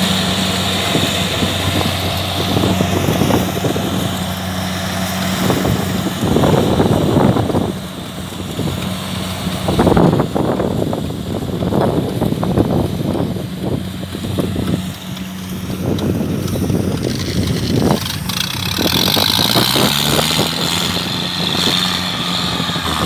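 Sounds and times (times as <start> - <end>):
diesel engine running: 0.0 - 23.0
wind buffeting microphone: 0.0 - 23.0.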